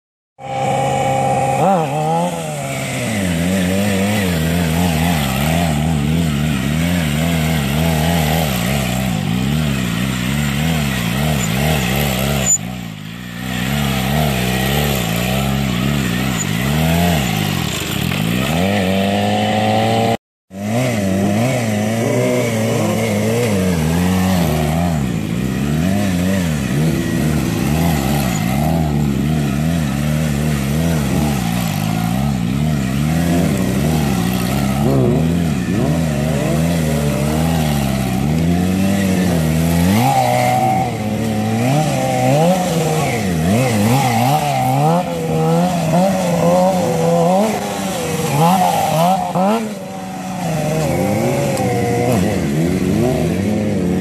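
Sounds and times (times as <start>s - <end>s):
motorcycle engine revving: 0.4s - 54.0s.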